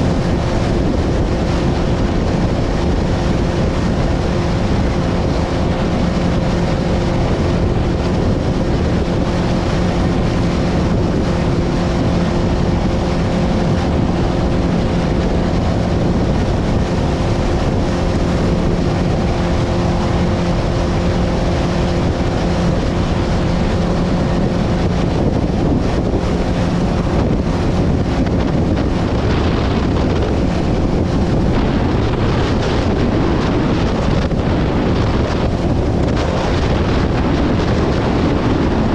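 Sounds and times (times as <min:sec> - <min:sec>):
boat motor humming: 0:00.0 - 0:38.9
wind buffeting microphone: 0:00.0 - 0:38.9.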